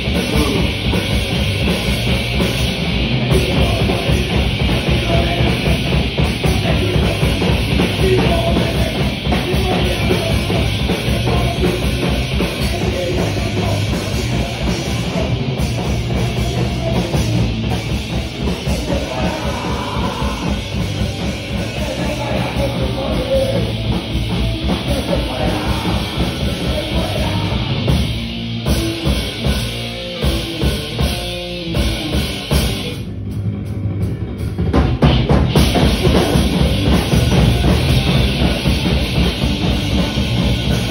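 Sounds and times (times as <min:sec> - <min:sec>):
punk band playing live: 0:00.0 - 0:40.9.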